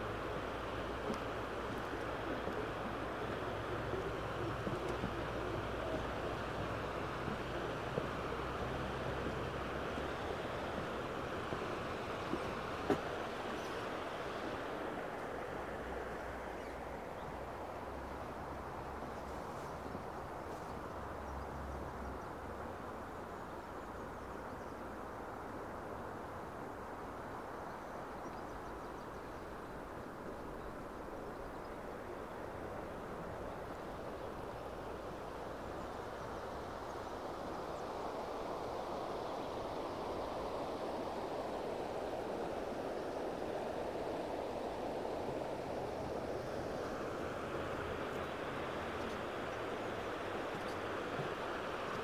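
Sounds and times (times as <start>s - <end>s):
river rushing over stones: 0.0s - 21.2s, 29.5s - 52.0s
wind rumbling on microphone: 0.0s - 52.0s.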